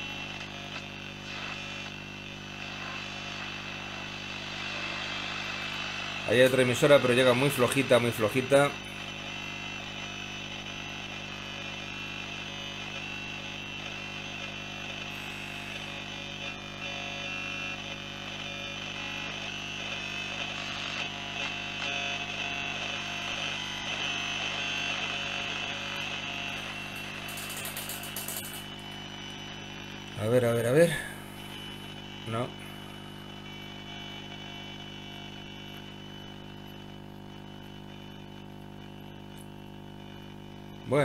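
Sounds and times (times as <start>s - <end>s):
faint radio station: 0.0s - 41.0s
low mains hum: 0.0s - 41.0s
radio static and hiss: 0.0s - 41.0s.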